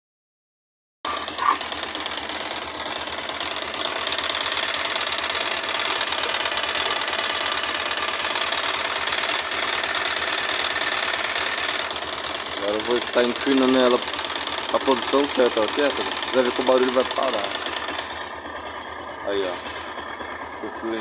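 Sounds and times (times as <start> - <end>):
motorcycle engine idling: 1.1 - 21.0
ticking clatter from engine: 1.1 - 21.0.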